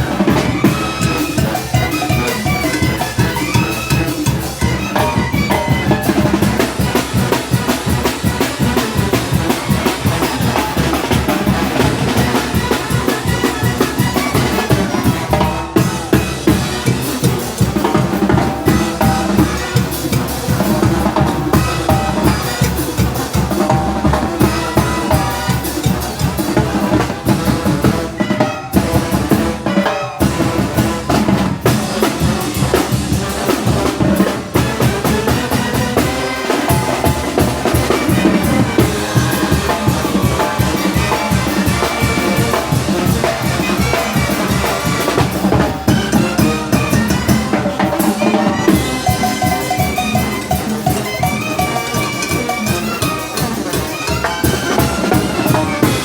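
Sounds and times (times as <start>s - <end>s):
brass melody: 0.0s - 56.0s
snare drum: 0.0s - 56.0s.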